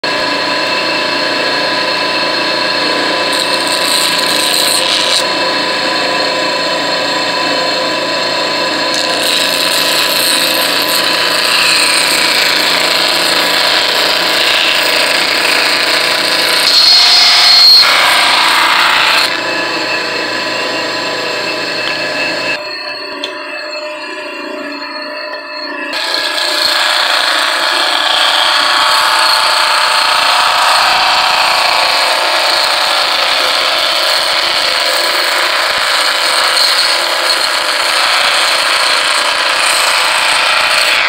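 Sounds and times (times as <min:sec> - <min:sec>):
electric saw cutting foam: 0:00.0 - 0:22.6, 0:25.9 - 0:41.0.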